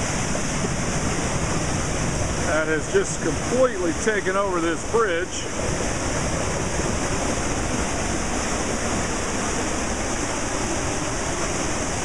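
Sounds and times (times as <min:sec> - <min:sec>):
floodwater rushing over a bridge: 0:00.0 - 0:12.0.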